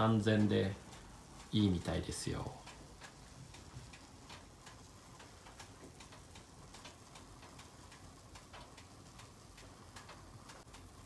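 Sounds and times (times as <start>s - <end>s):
wood fire crackling in a stove: 0.0s - 11.0s.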